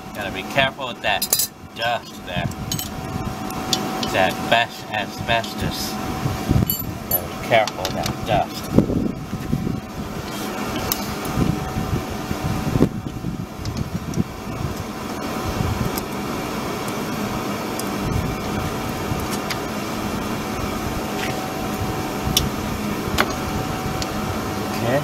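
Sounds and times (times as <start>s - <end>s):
mechanical hum with high tone: 0.0s - 25.0s.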